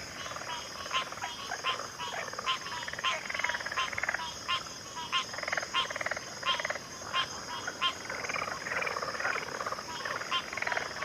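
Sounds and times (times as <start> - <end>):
frogs clicking calls: 0.0 - 11.0
frogs trilling pulsing calls: 0.0 - 11.0.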